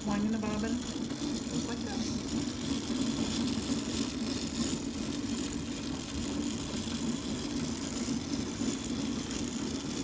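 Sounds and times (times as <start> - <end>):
bobbin winder spinning: 0.0 - 10.0
treadle sewing machine running: 0.0 - 10.0.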